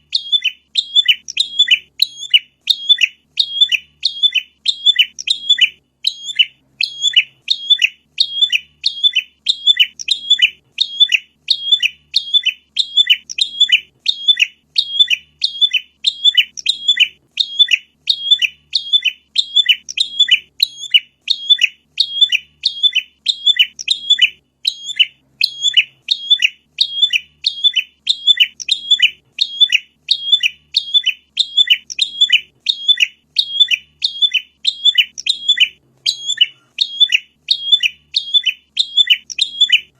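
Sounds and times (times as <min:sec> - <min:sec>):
bird chirping call: 0:00.0 - 0:39.9.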